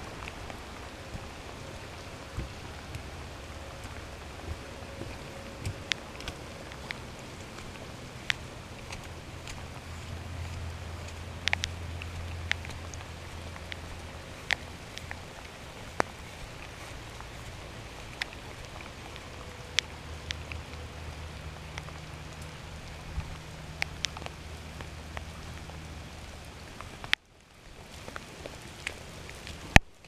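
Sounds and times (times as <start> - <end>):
low steady hum: 0.0 - 30.0
rain hiss: 0.0 - 30.0
raindrops ticking: 0.0 - 30.0.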